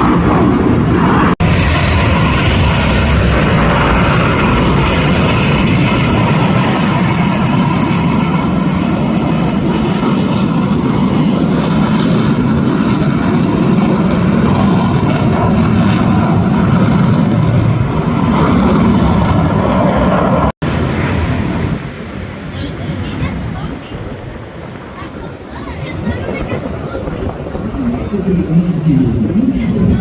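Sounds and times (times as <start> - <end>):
loud jet aircraft engine: 0.0 - 30.0.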